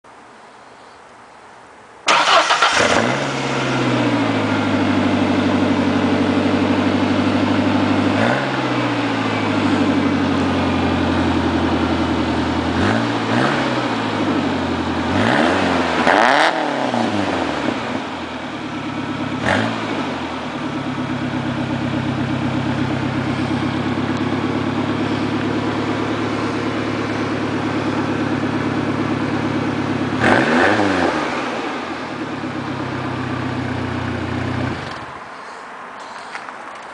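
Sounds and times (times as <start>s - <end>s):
car engine idling and revving: 2.1s - 36.9s.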